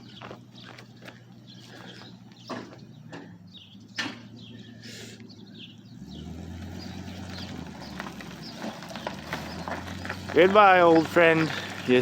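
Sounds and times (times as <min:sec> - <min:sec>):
birds chirping: 0:00.0 - 0:12.0
vehicle engine humming: 0:00.0 - 0:12.0.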